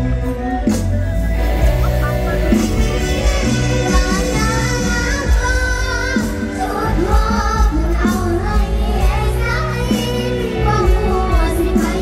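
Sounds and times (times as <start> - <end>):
bass and drum beat: 0.0 - 12.0
high singing voice: 1.8 - 12.0.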